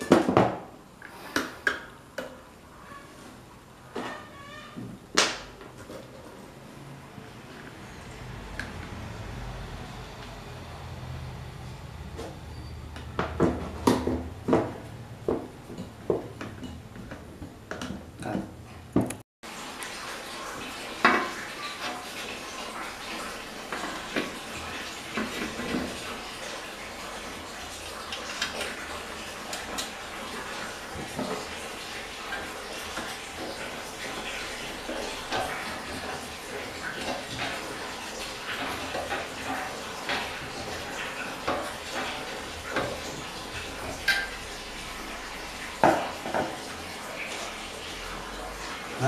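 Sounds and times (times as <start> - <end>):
fan running airy hiss: 4.9 - 17.7, 19.5 - 49.0.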